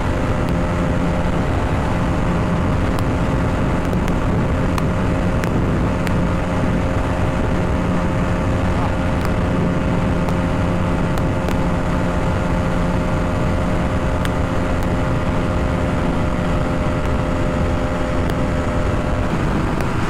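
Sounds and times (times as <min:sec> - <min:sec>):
motorcycle engine at high revs: 0:00.0 - 0:20.0
road noise: 0:00.0 - 0:20.0
wind rush: 0:00.0 - 0:20.0.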